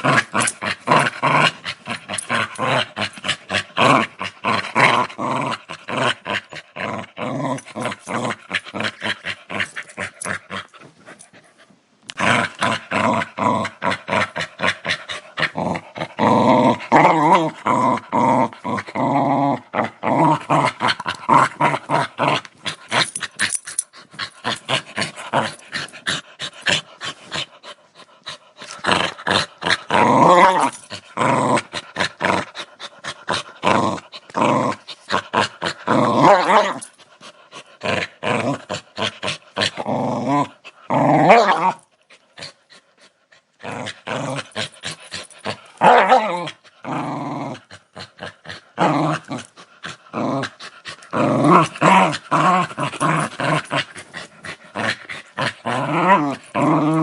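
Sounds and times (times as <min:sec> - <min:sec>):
dog growling and snarling: 0:00.0 - 0:57.0.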